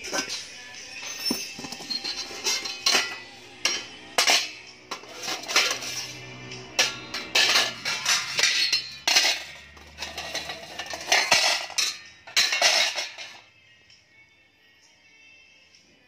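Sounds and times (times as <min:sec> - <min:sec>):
metal pots clanking and scraping: 0:00.0 - 0:13.5.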